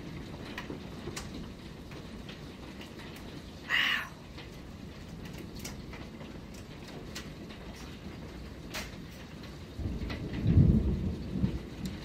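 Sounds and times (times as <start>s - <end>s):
hail ticks: 0.0s - 12.0s
heavy rain pouring: 0.0s - 12.0s.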